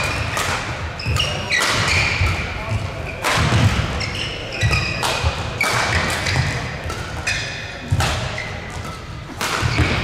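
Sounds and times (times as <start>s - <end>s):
rackets hitting shuttlecock: 0.0s - 10.0s
shoes squeaking on court: 0.0s - 10.0s.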